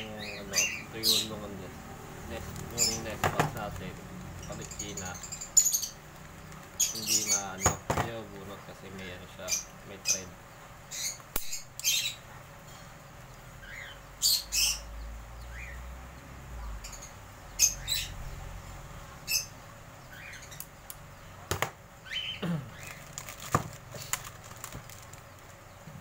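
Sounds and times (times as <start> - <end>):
parrots squawking and chirping: 0.0 - 8.2, 9.0 - 12.9, 13.5 - 15.9, 16.6 - 25.8.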